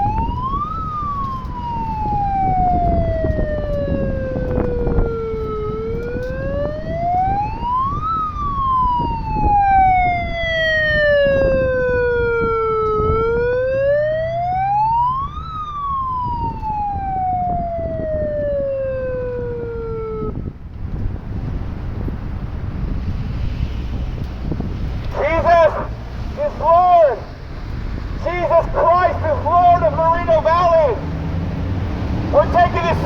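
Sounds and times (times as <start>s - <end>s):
siren wailing: 0.0s - 20.6s, 25.0s - 27.4s, 28.2s - 31.6s, 32.2s - 33.0s.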